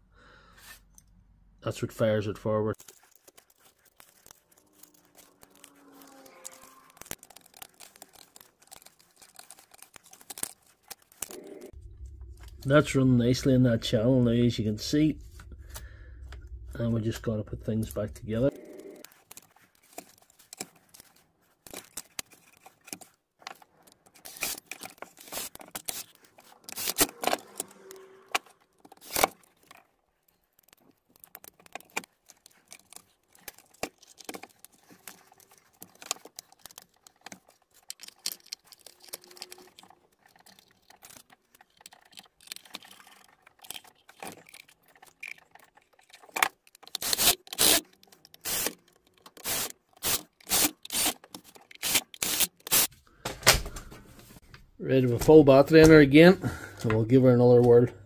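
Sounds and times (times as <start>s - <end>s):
small parts clicking and scraping: 2.7s - 54.5s.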